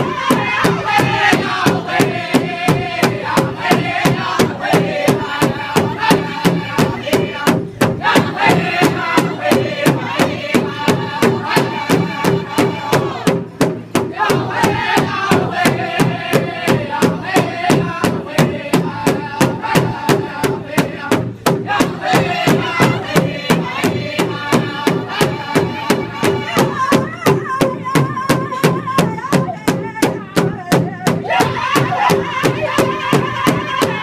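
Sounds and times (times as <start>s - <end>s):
steady drumbeat: 0.0s - 34.0s
voices chanting together: 0.0s - 34.0s.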